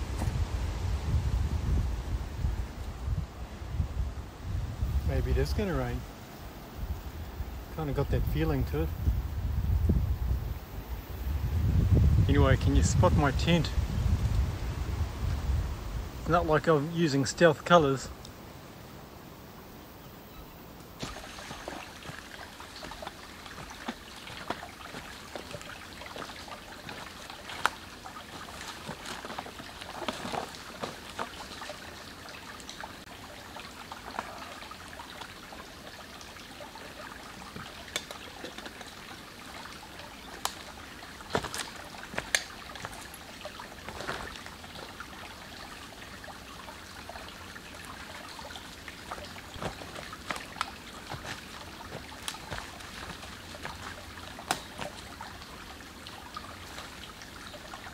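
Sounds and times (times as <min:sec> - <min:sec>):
creek trickling over stones: 0:00.0 - 0:57.9.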